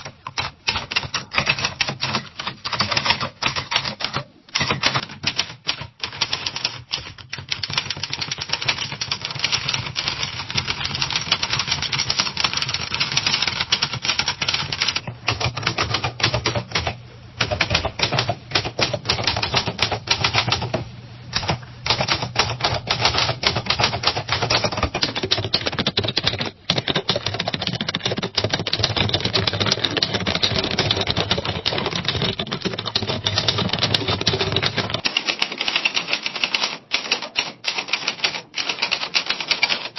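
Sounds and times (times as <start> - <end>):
typewriter typing: 0.0 - 39.9.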